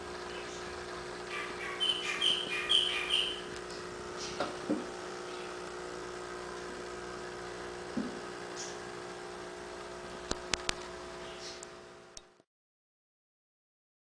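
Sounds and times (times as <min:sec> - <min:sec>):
aquarium equipment humming: 0:00.0 - 0:12.4.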